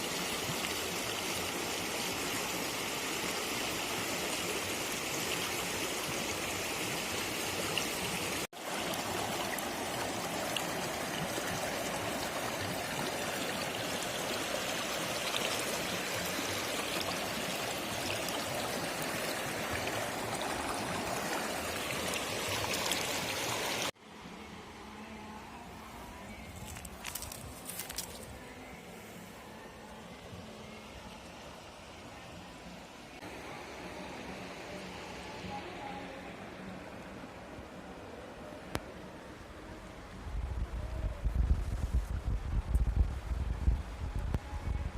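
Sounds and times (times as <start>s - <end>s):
river water flowing: 0.0s - 40.3s.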